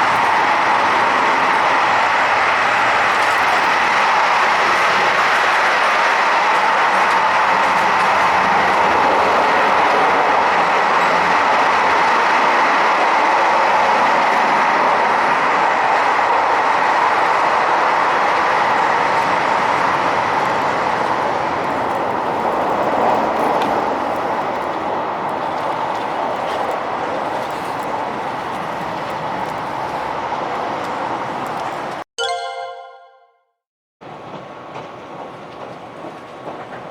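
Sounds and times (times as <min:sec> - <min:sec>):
train wheel and rail noise: 0:00.0 - 0:32.0, 0:34.0 - 0:36.9.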